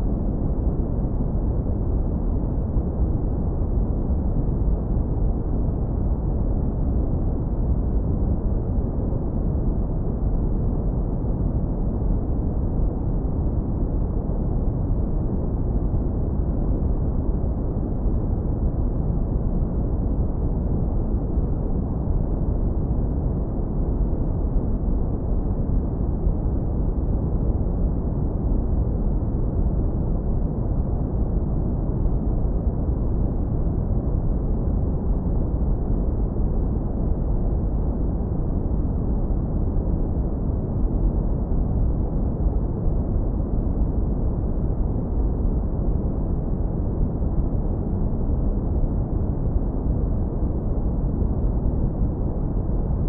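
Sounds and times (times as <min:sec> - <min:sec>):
deep brown noise rumble: 0:00.0 - 0:53.0.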